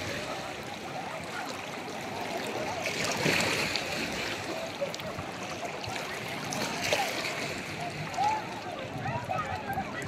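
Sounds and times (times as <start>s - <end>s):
water splashing and lapping: 0.0s - 10.0s.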